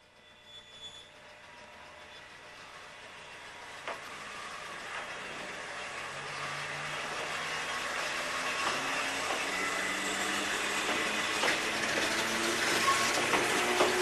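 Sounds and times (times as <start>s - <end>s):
electric railcar running noise: 0.0s - 14.0s.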